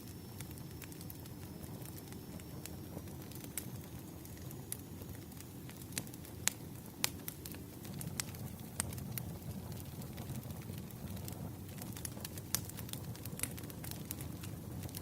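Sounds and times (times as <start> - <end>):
burning logs crackling and popping: 0.0 - 15.0
low rumble of flame: 0.0 - 15.0.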